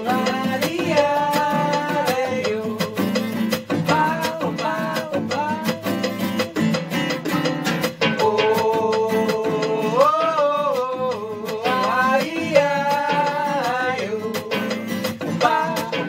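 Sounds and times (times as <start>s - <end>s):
person singing melody: 0.0s - 6.9s, 7.9s - 16.0s
fast percussion beat: 0.0s - 16.0s
guitar: 0.0s - 16.0s.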